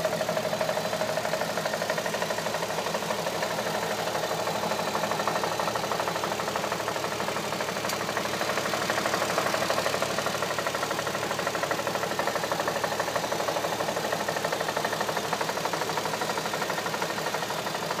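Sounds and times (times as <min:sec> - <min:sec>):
car engine running: 0:00.0 - 0:18.0
fast engine knock: 0:00.1 - 0:18.0.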